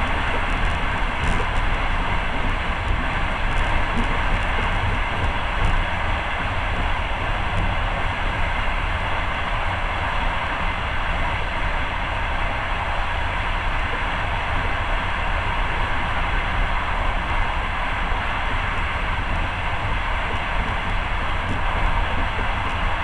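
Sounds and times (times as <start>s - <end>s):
train running inside carriage: 0.0s - 23.0s.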